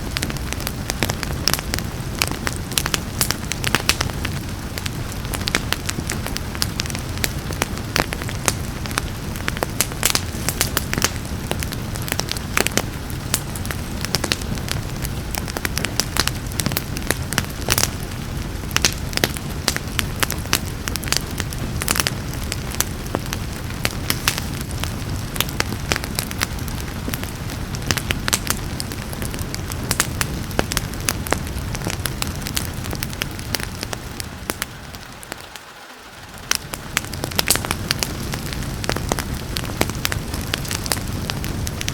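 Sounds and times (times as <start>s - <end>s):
hiss of rain: 0.0s - 41.9s
low rumble of flames: 0.0s - 41.9s
wood fire crackling and popping: 0.0s - 41.9s.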